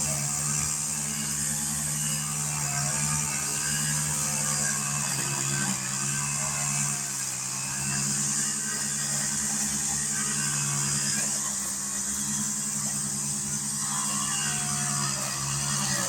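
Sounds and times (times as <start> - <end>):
mower engine cutting grass: 0.0 - 16.0.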